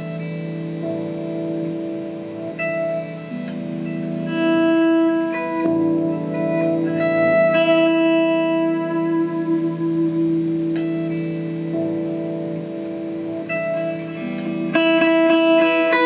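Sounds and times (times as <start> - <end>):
solo guitar with effects: 0.0 - 16.0.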